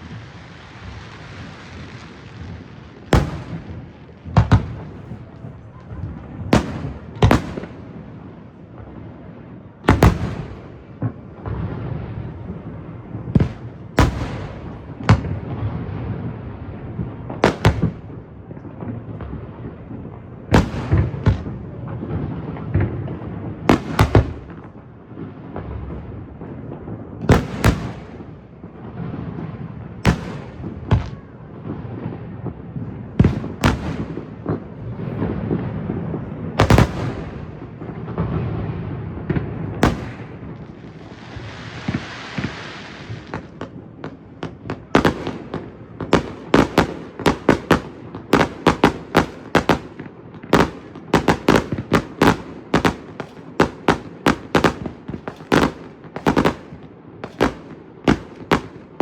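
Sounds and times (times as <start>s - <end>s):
rapid sharp firework bangs: 0.0s - 8.1s, 9.8s - 11.8s, 12.4s - 15.9s, 17.3s - 18.2s, 20.6s - 24.7s, 27.2s - 31.4s, 32.0s - 59.0s
firework booms: 0.0s - 59.0s.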